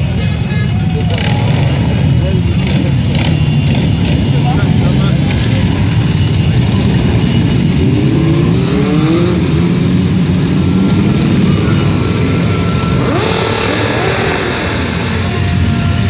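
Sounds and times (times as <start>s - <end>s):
motorcycle engines rumbling: 0.0s - 16.0s
motorcycle engine revving: 0.9s - 16.0s.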